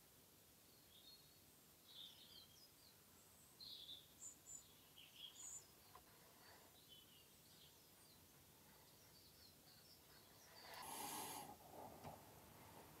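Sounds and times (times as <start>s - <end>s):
faint bird chirps: 0.6s - 11.5s.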